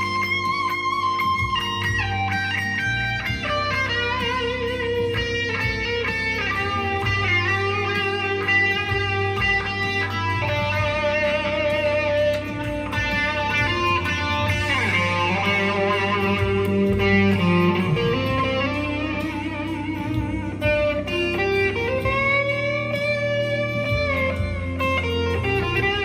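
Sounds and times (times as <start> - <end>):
electric guitar with wah: 0.0 - 26.0.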